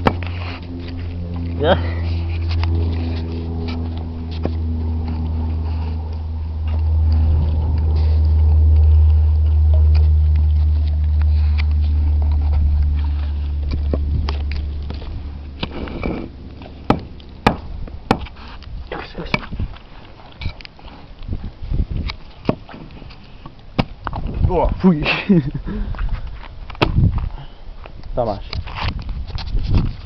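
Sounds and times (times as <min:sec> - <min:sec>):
low-pitched hum: 0:00.0 - 0:30.0.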